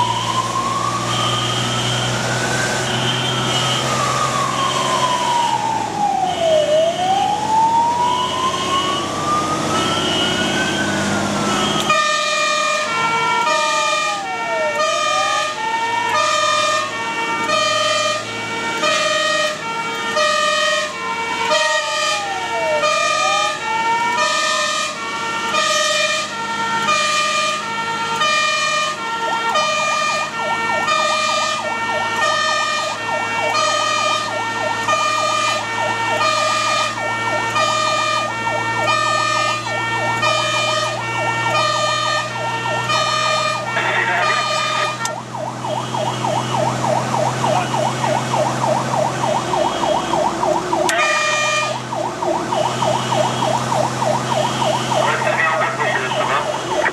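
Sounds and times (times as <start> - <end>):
diesel engine droning: 0.0 - 56.9
siren wailing and yelping: 0.0 - 56.9.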